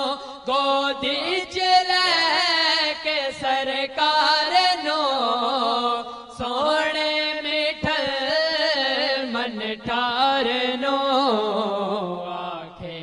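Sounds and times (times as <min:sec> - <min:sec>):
young male voices singing: 0:00.0 - 0:13.0.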